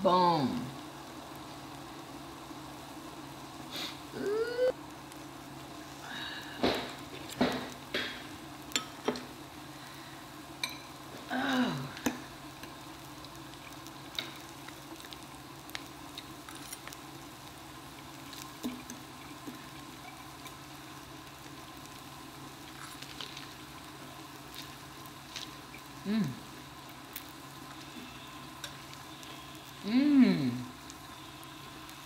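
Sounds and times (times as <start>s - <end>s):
meat and vegetables sizzling: 0.0s - 32.0s.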